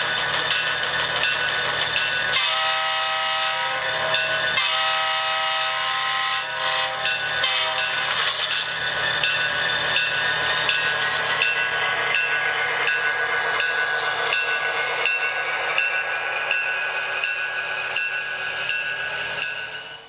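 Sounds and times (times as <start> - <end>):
model train running hiss and hum: 0.0 - 20.0.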